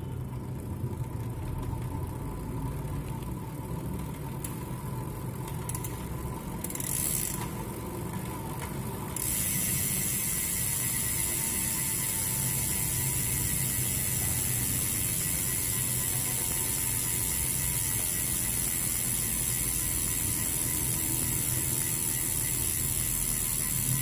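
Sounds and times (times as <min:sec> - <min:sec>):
bicycle freehub ratchet buzzing: 0:00.0 - 0:24.0.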